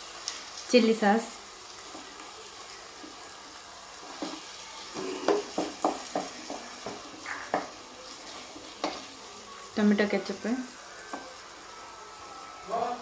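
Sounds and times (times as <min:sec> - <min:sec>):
faint frying sizzle: 0:00.0 - 0:13.0.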